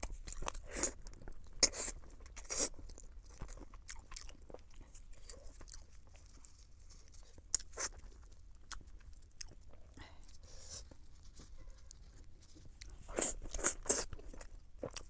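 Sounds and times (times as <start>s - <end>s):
wet chewing and mouth smacks: 0.0s - 10.0s, 10.8s - 15.0s.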